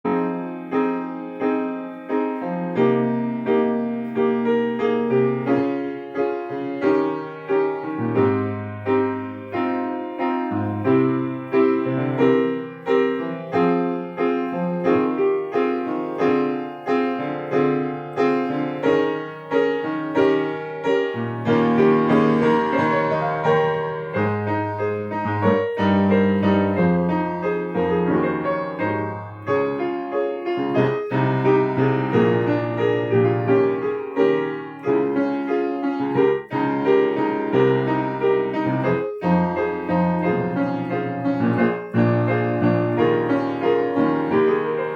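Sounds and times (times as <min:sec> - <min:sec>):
piano playing: 0:00.0 - 0:44.9.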